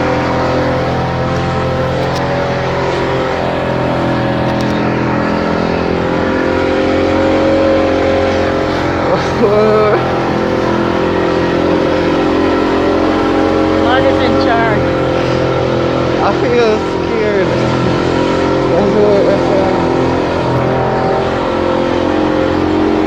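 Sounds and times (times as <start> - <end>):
speedboat engine drone: 0.0 - 23.0.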